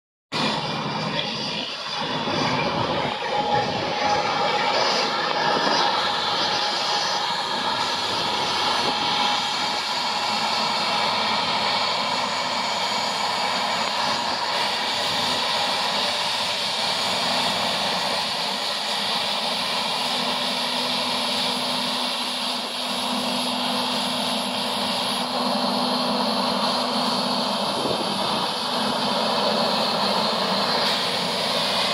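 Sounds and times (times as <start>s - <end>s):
jet engines whining: 0.3s - 31.9s
low hum: 0.4s - 31.9s.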